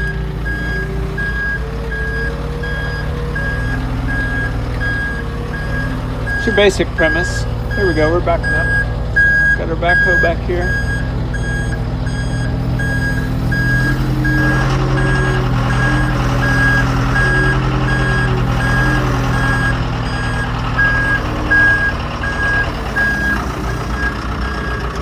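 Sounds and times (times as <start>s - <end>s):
back-up alarm beeping: 0.0s - 25.0s
diesel engine running: 0.0s - 25.0s.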